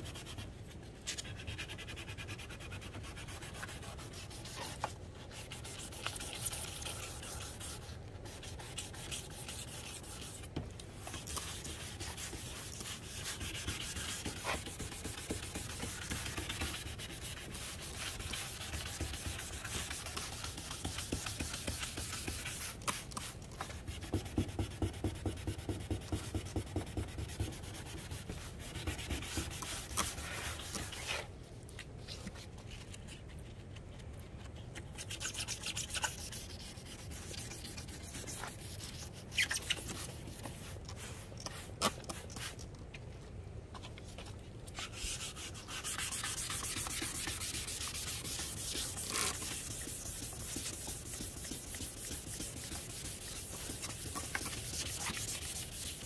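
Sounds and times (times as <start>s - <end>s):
sandpaper rubbing on plastic: 1.1s - 31.3s, 35.0s - 42.6s, 44.8s - 56.0s.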